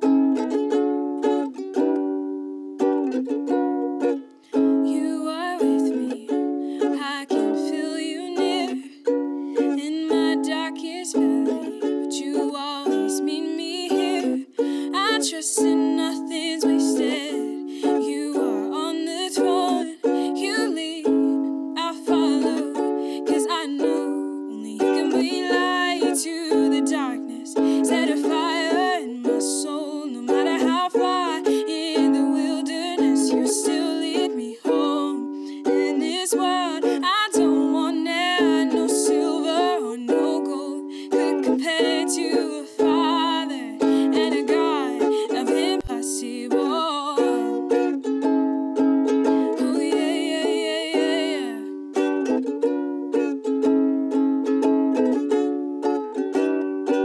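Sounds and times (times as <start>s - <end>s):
strummed ukulele: 0.0s - 57.0s
woman singing: 4.6s - 48.0s, 49.1s - 52.4s.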